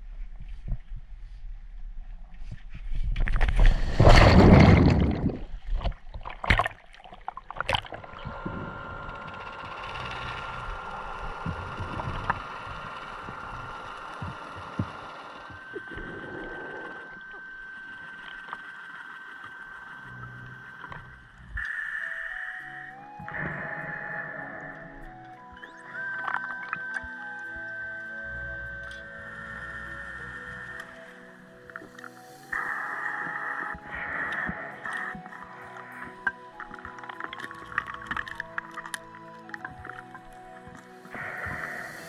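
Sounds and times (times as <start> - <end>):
underwater scooter motor whine: 7.6 - 22.1, 22.7 - 42.0.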